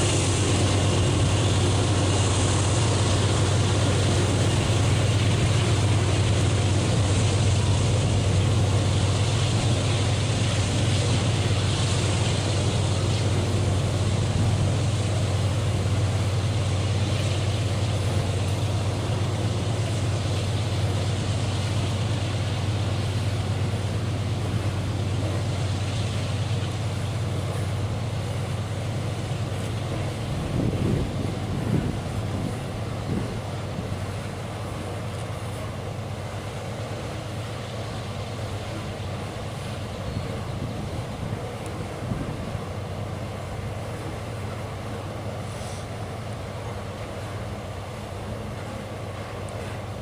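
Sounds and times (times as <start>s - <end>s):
locomotive engines droning: 0.0s - 50.0s
train rolling rumble: 0.0s - 50.0s.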